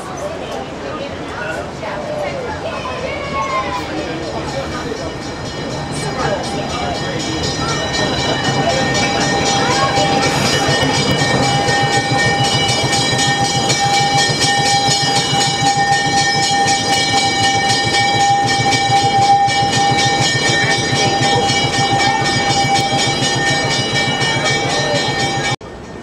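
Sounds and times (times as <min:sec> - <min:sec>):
diesel locomotive engine whining: 0:00.0 - 0:26.0
train cars rolling past: 0:00.0 - 0:26.0.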